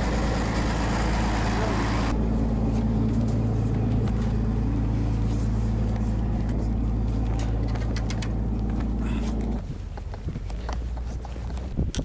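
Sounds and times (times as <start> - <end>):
boat engine droning: 0.0 - 11.5.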